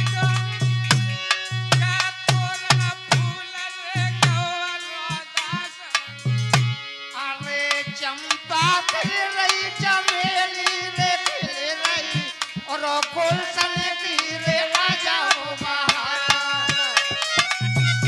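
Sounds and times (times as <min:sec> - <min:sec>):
hand drum folk rhythm: 0:00.0 - 0:03.4, 0:04.0 - 0:06.8, 0:07.4 - 0:18.0
harmonium melody: 0:00.0 - 0:18.0.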